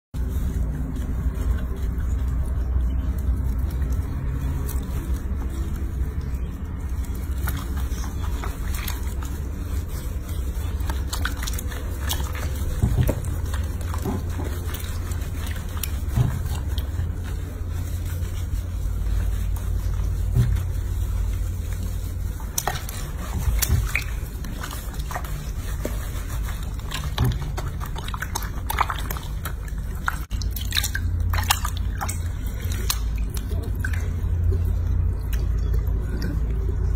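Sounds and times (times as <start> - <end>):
water sloshing in a washbasin: 0.2 - 36.9.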